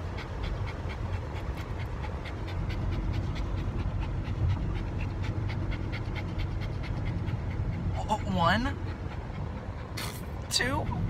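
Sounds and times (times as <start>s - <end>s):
dog panting rapidly: 0.0s - 11.0s
low rumble of car: 0.0s - 11.0s.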